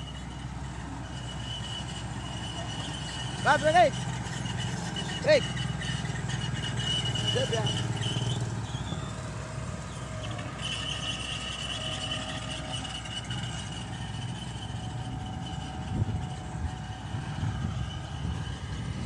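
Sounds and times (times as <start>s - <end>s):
diesel engine running: 0.0s - 19.0s
high-pitched metallic squeal: 0.0s - 19.0s.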